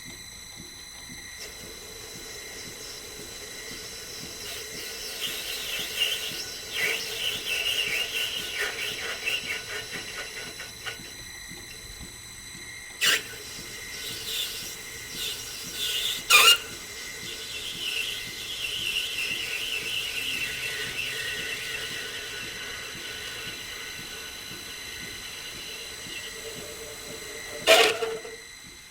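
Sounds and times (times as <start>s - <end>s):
machine whine: 0.0s - 28.9s
lathe tool squealing: 1.4s - 12.0s, 13.0s - 28.7s.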